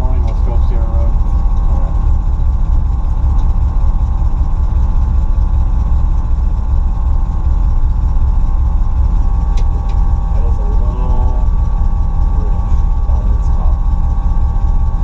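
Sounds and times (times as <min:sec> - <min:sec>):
vee eight engine idling: 0:00.0 - 0:15.0.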